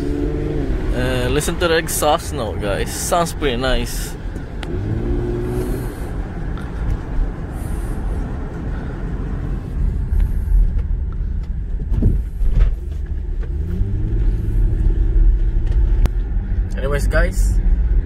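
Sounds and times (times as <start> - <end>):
car exhaust rumble: 0.0 - 18.0.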